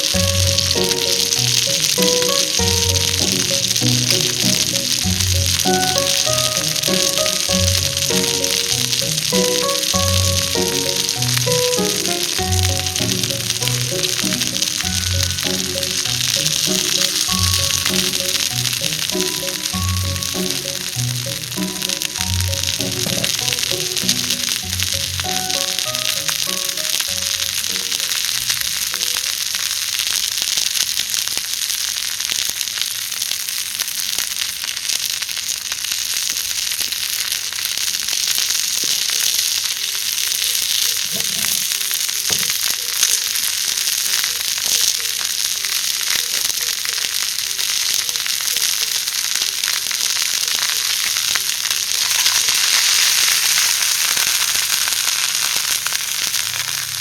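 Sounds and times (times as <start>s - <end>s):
meat sizzling over wood fire: 0.0s - 57.0s.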